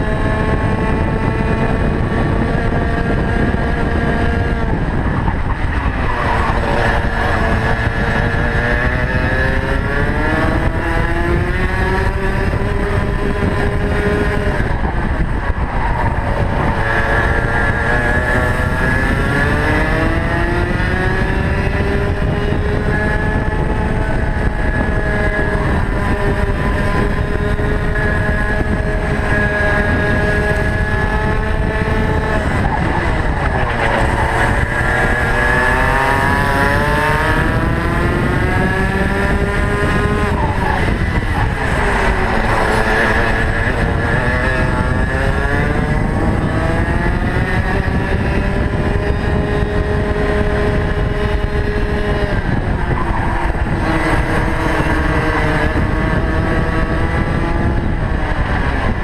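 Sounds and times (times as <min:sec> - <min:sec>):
kart engine at racing speed: 0:00.0 - 0:59.0.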